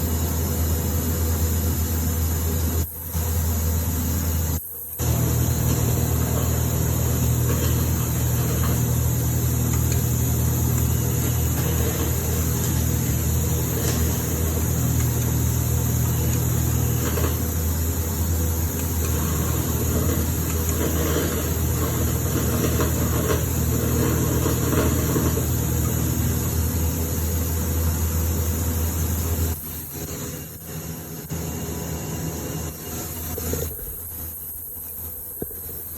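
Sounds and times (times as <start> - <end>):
electrical hum: 0.0 - 35.9
crackling welding arc: 0.1 - 35.9.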